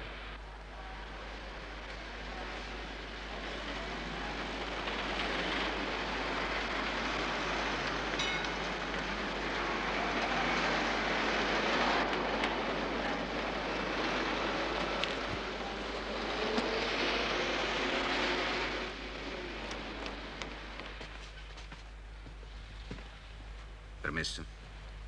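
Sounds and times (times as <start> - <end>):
train rushing and hissing: 0.0 - 23.4.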